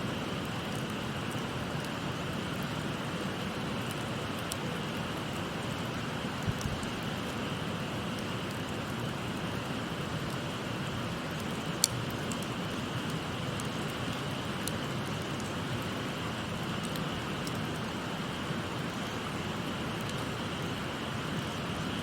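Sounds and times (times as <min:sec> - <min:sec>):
campfire crackling and popping: 0:00.1 - 0:22.0.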